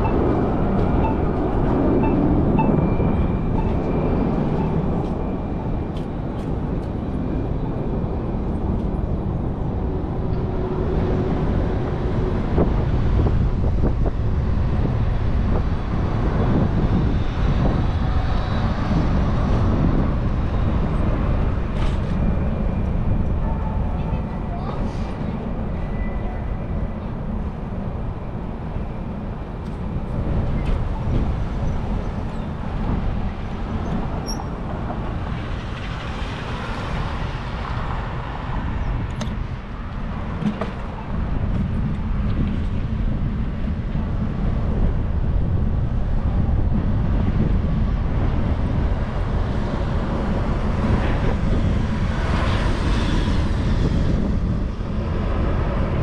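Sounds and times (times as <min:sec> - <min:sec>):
street traffic rumble: 0:00.0 - 0:56.0
vehicles passing: 0:00.0 - 0:56.0.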